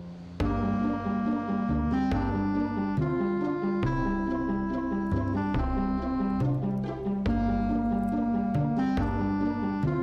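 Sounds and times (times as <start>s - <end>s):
melody over bass line: 0.4s - 10.0s.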